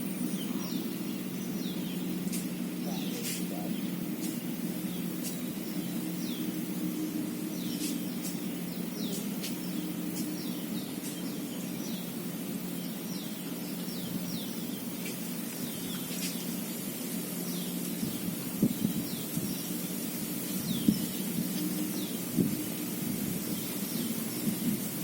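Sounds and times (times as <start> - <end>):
birds chirping: 0.0 - 25.0
steady low hum: 0.0 - 25.0.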